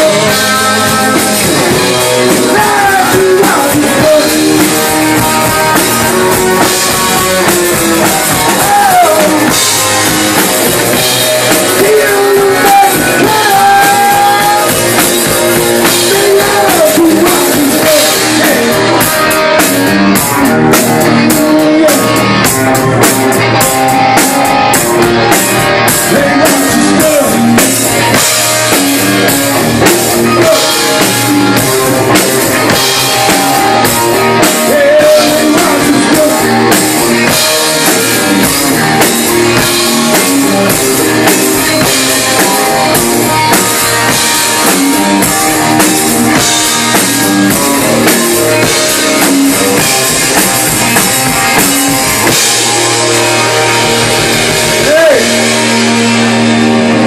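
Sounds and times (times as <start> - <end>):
electric guitar lead: 0.0 - 57.0
live rock band playing: 0.0 - 57.0.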